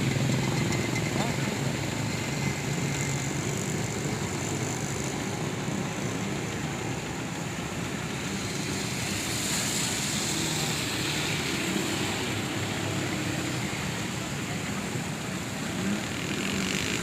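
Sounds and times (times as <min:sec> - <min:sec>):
traffic on wet street: 0:00.0 - 0:17.0.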